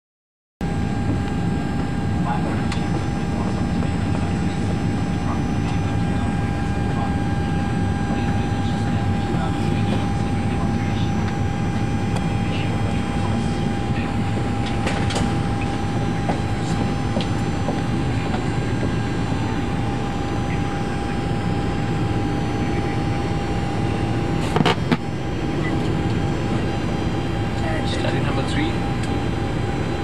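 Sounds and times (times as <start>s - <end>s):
aircraft cockpit rumble: 0.6s - 30.0s
thin high hum: 0.6s - 30.0s.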